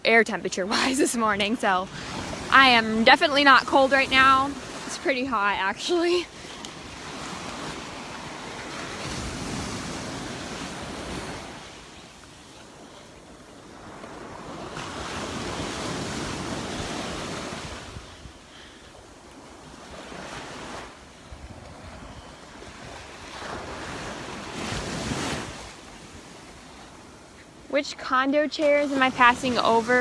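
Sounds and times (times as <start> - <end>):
surf washing onto beach: 0.7 - 18.5, 19.1 - 30.0.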